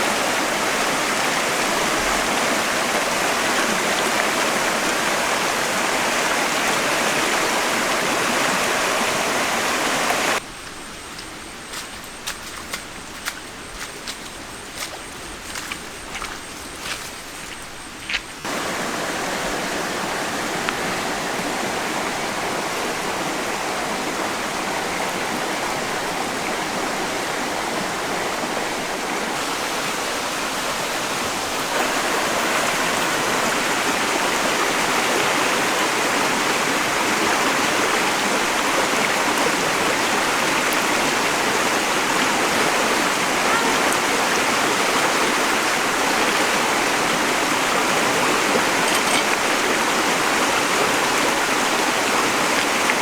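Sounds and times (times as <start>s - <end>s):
waterfall rushing: 0.0s - 10.4s, 18.4s - 53.0s.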